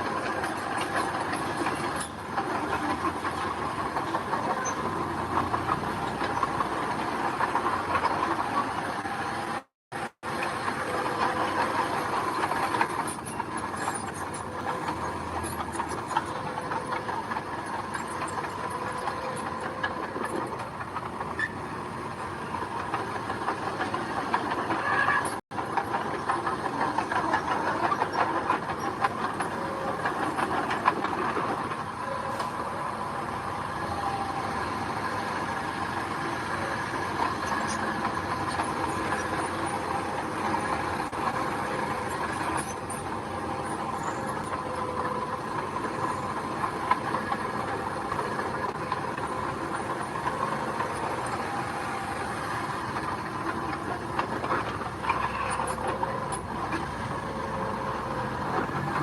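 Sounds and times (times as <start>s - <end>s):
earth-moving machinery engine: 0.0s - 59.0s.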